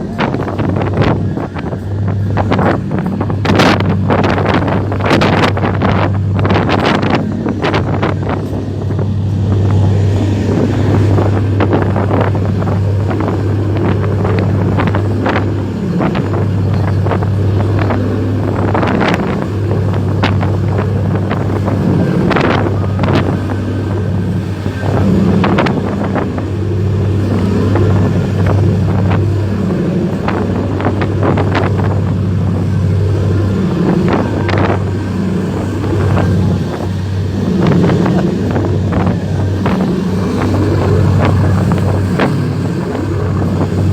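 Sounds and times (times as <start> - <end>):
boat motor running: 0.0 - 43.9
wind buffeting microphone: 0.0 - 43.9.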